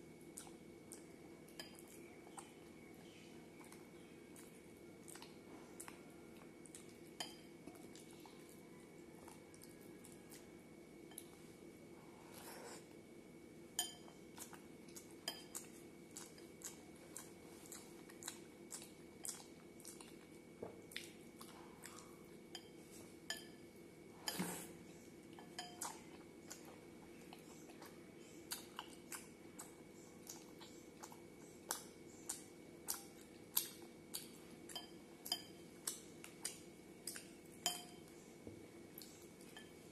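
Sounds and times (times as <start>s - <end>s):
soft wet chewing: 0.0s - 39.9s.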